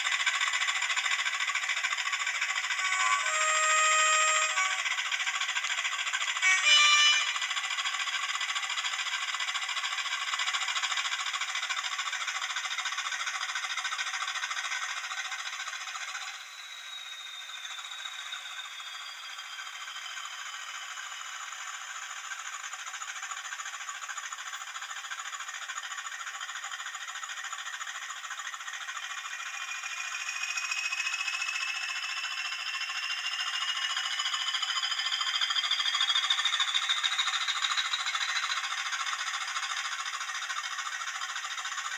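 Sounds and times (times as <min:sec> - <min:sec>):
model engine whine: 0:00.0 - 0:41.9
tinny model diesel engine sound: 0:00.0 - 0:41.9.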